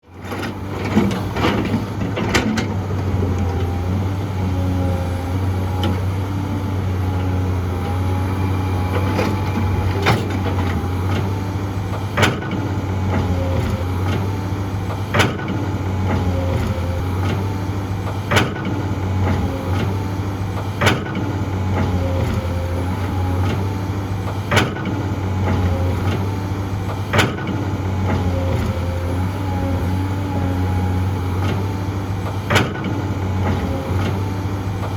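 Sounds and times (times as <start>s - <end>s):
diesel engine droning: 0.0s - 34.9s.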